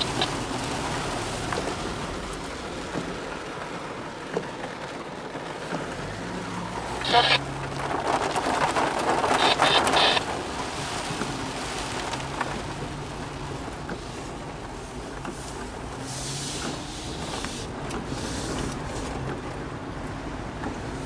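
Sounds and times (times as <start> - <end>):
heavy rain drumming on a car: 0.0 - 21.0.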